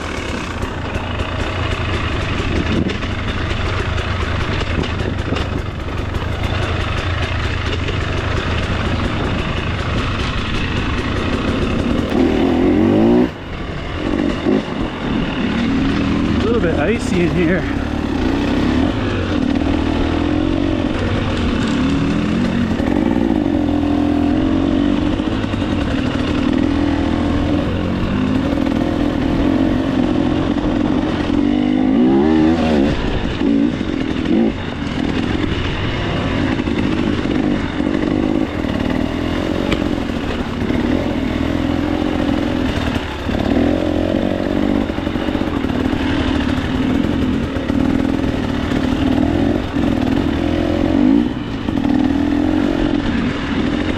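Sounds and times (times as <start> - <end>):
two-stroke dirt bike engine revving: 0.0 - 53.9.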